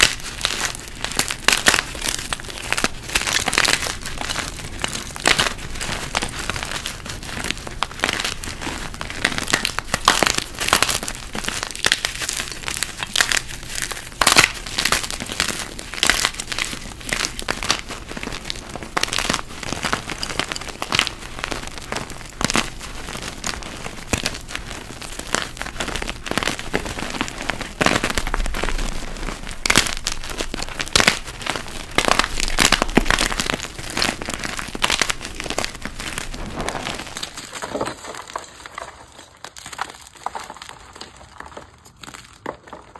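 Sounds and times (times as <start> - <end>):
chalk blocks crunching: 0.0 - 42.9.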